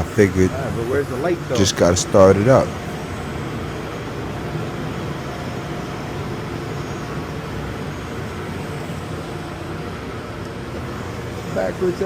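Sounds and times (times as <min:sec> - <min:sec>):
boiler room machinery hum: 0:00.0 - 0:12.0.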